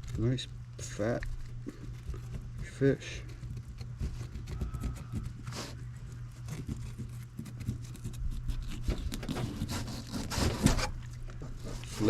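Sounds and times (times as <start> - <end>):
knife scraping through fish: 0.0 - 11.0.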